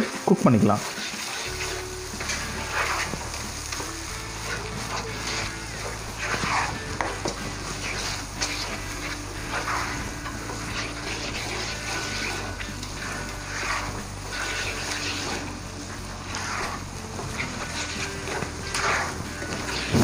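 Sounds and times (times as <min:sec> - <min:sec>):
pan sizzling: 0:00.0 - 0:20.0
spatula scraping thick gravy: 0:00.0 - 0:20.0.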